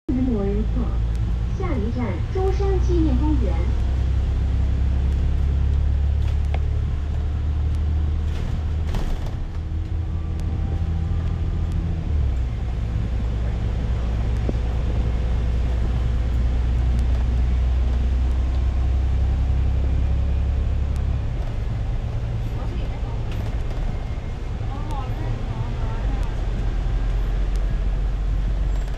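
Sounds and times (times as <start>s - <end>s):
bus engine droning: 0.0s - 28.9s.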